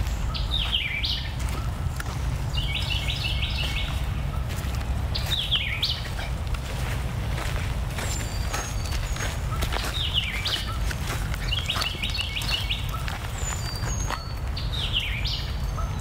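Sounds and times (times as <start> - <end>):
songbird calls: 0.0 - 16.0
steady low rumble: 0.0 - 16.0.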